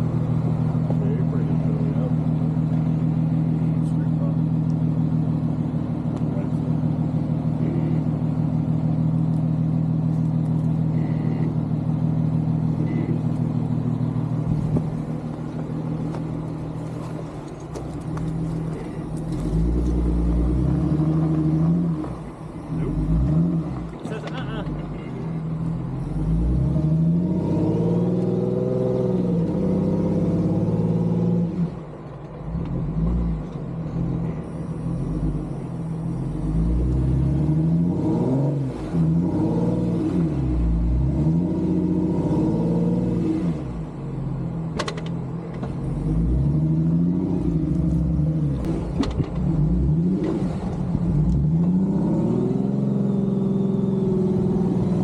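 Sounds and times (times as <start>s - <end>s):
car engine revving in mud: 0.0s - 31.9s, 32.5s - 55.0s.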